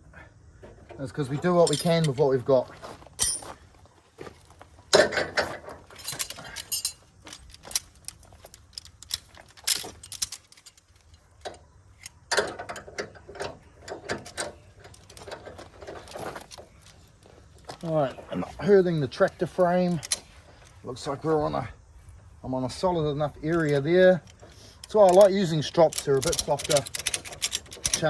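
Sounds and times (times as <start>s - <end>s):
metal rigging hardware clinking: 0.6s - 28.0s.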